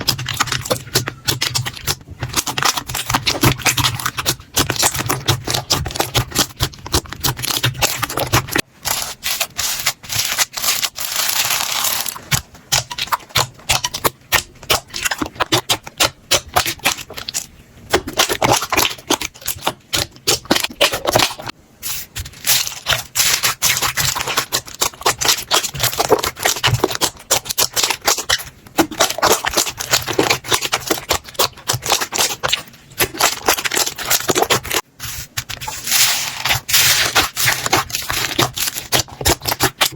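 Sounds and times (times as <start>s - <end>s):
slime crackling and squishing: 0.0s - 39.9s.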